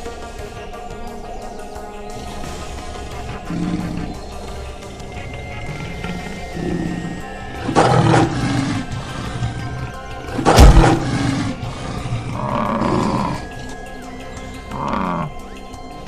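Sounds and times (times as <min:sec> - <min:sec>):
background music: 0:00.0 - 0:16.0
lion roaring: 0:02.2 - 0:15.5.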